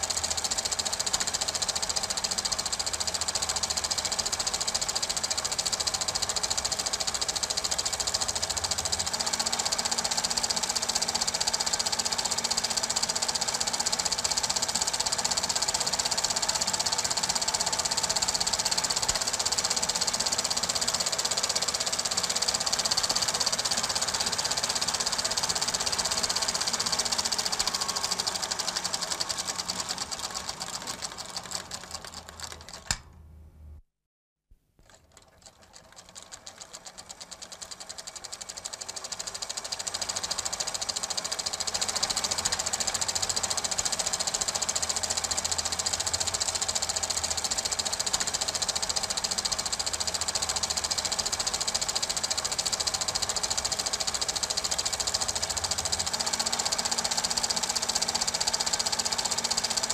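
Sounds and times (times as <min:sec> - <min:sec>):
film projector clattering: 0:00.0 - 0:33.1, 0:34.8 - 0:59.9.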